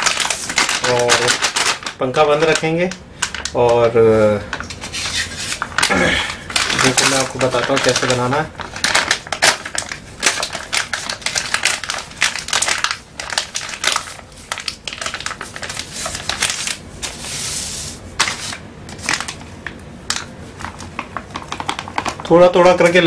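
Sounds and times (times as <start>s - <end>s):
packet tearing: 0.0s - 3.8s, 5.5s - 17.3s, 18.2s - 19.4s, 20.1s - 23.0s
packet crinkling: 0.0s - 23.0s.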